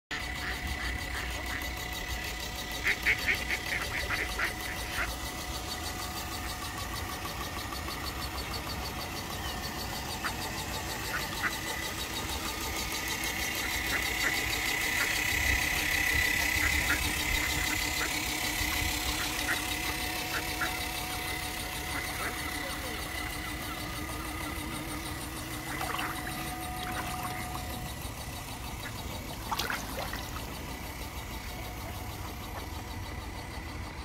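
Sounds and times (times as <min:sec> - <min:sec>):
small motor whining: 0:00.1 - 0:34.0.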